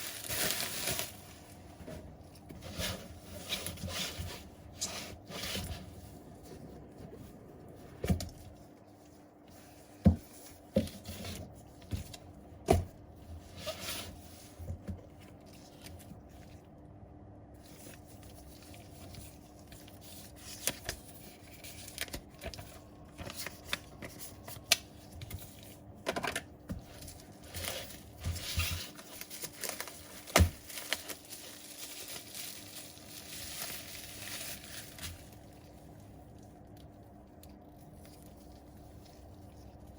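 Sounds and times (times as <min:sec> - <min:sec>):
scraping crinkling and tearing: 0:00.0 - 0:12.5, 0:17.6 - 0:39.9.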